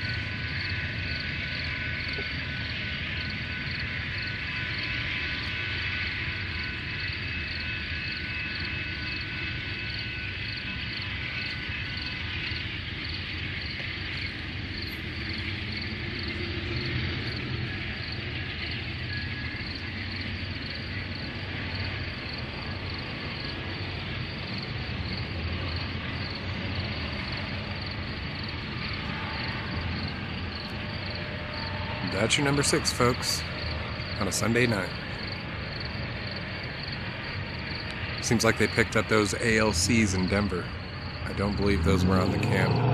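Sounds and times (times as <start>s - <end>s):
crickets chirping: 0.0s - 42.9s
train rumbling: 0.0s - 42.9s.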